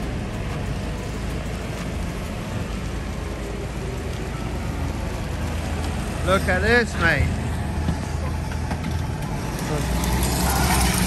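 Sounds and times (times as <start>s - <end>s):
loader engine running: 0.0s - 11.0s
rain hissing: 0.0s - 11.0s.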